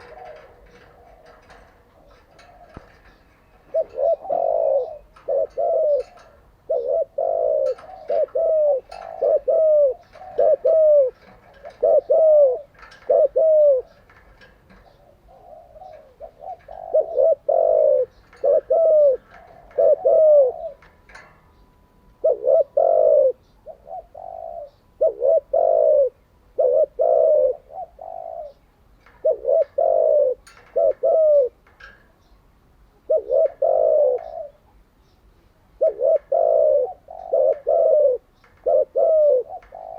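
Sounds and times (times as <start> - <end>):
dove cooing: 0.0 - 32.3, 32.9 - 34.8, 35.7 - 39.9.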